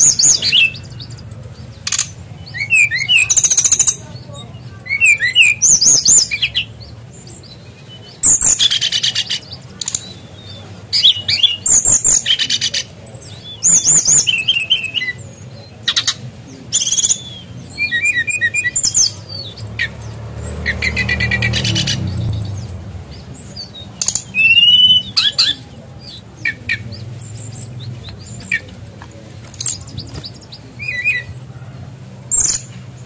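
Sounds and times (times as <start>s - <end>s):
songbird chirps and trills: 0.0s - 33.0s.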